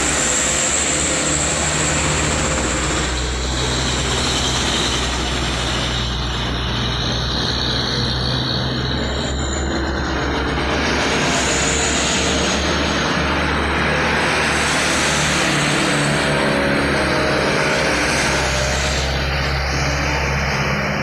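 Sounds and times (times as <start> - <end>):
road noise: 0.0 - 21.0
truck diesel engine droning: 0.0 - 21.0.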